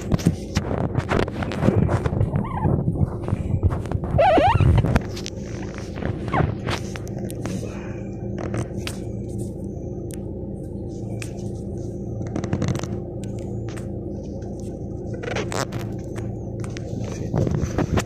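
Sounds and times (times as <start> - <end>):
low hum in car cabin: 0.0 - 18.0.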